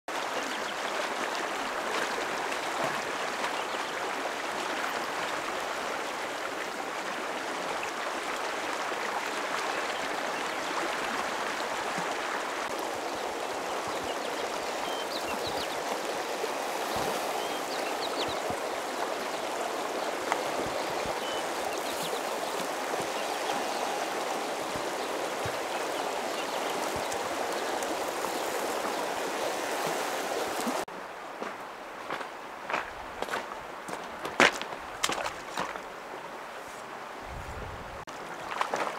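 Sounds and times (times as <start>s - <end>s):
stream rushing over stones: 0.1s - 37.4s, 38.0s - 38.9s.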